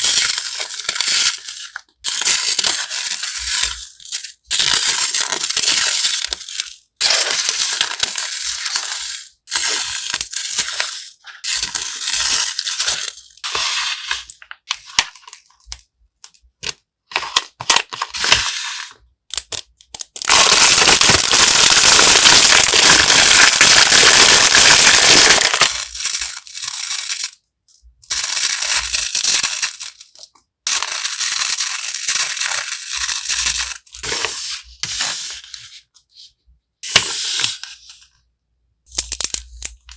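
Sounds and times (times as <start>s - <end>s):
packaging crinkling and rustling: 0.0s - 18.6s, 19.4s - 27.4s, 28.1s - 35.7s.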